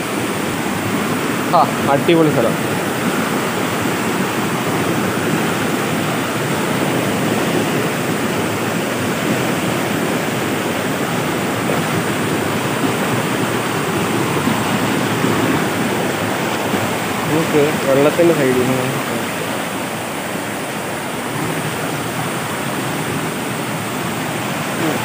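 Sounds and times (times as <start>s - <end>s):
stream water rushing over stones: 0.0s - 25.0s.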